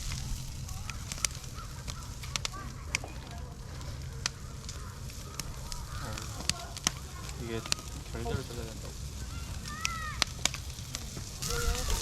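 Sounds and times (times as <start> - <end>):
burning firewood popping: 0.0 - 12.0
campfire crackling: 0.0 - 12.0.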